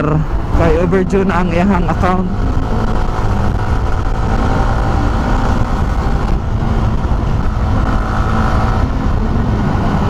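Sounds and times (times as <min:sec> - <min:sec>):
motorcycle engine: 0:00.0 - 0:10.0
wind rush on microphone: 0:00.0 - 0:10.0.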